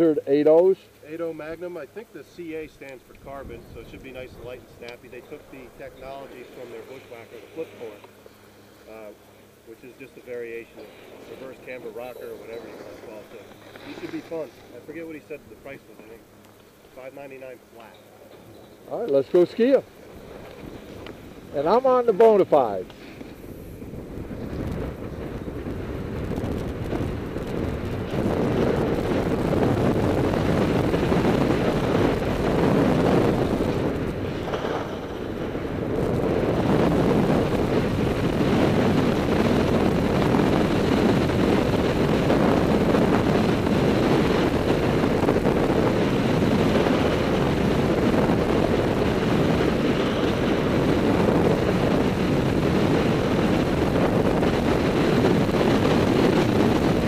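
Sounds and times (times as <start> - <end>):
wind rushing on microphone: 1.2 - 16.4, 18.8 - 57.0.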